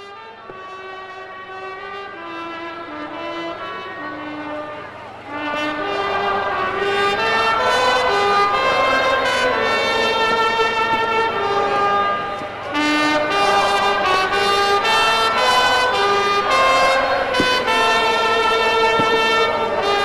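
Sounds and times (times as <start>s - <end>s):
brass instruments slow melody: 0.0s - 20.0s.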